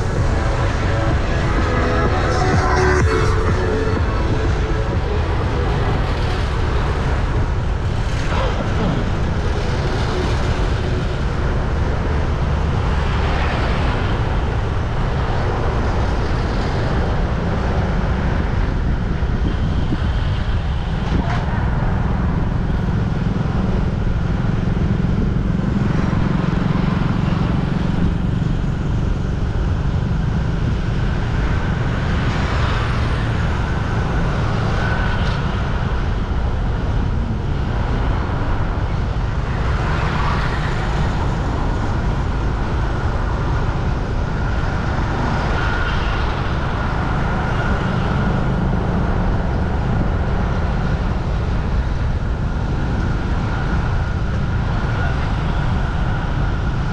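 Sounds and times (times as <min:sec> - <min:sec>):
road traffic rumble: 0:00.0 - 0:56.9
vehicles passing close: 0:00.0 - 0:56.9.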